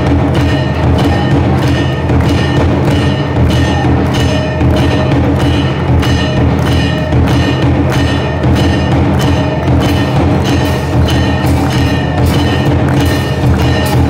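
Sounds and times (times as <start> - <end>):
large drum beating: 0.0 - 14.0
metal bells clanging: 0.0 - 14.0.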